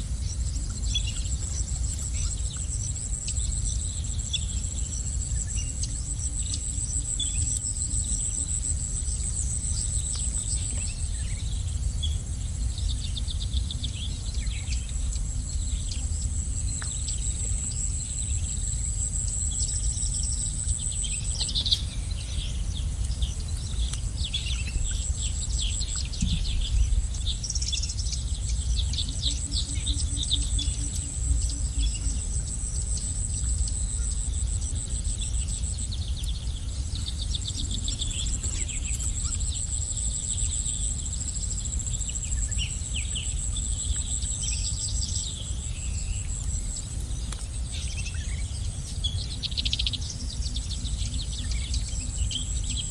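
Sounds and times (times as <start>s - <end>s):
high-pitched insect drone: 0.0s - 52.9s
low background rumble: 0.0s - 52.9s
small birds chirping: 0.0s - 52.9s.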